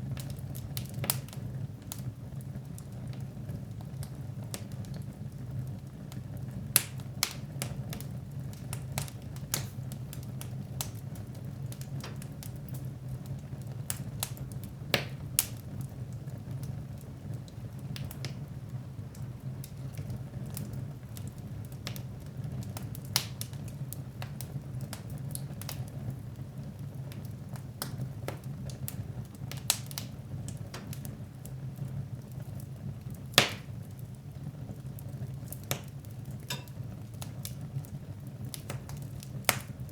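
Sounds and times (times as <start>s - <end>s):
low rumble of burning fire: 0.0s - 39.9s
wood fire crackling: 0.0s - 39.9s.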